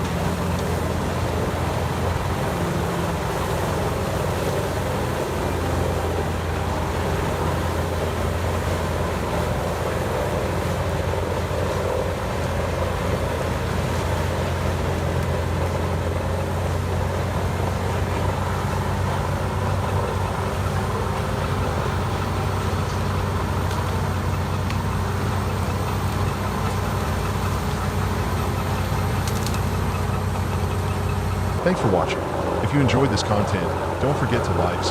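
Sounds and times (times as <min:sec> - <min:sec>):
heavy machine engine droning: 0:00.0 - 0:34.9.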